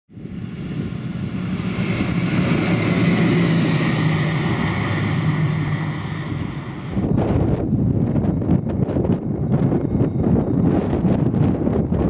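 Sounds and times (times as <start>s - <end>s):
electric locomotive passing: 0.1s - 12.0s
high whine: 0.1s - 12.0s
wheels rumbling on rails: 0.1s - 12.0s.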